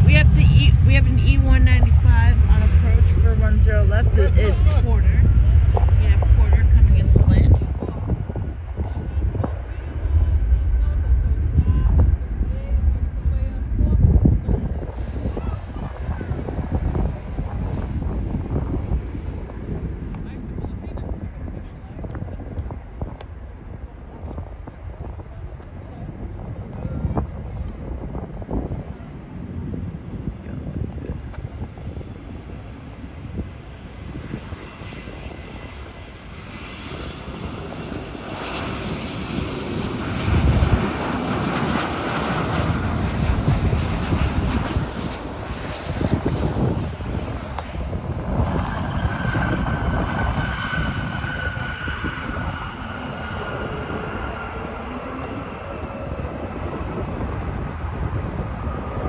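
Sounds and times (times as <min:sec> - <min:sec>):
jet airliner passing overhead: 0:00.0 - 0:59.0.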